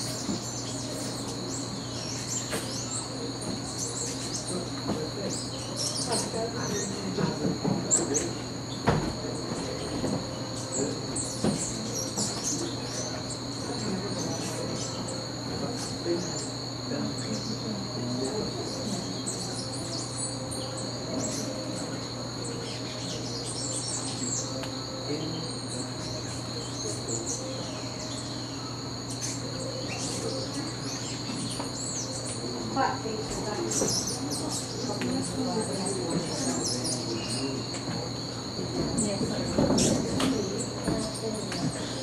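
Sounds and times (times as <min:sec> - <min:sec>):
high-pitched insect trill: 0:00.0 - 0:42.0.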